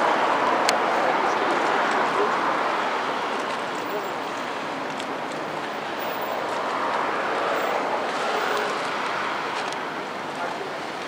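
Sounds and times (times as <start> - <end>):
river hiss: 0.0 - 11.0.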